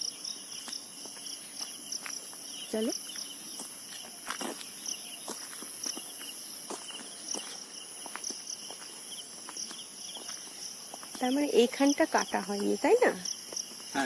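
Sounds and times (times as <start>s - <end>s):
insect chirp: 0.0s - 14.0s
insect chorus: 0.0s - 14.0s
footsteps on a path: 0.5s - 14.0s.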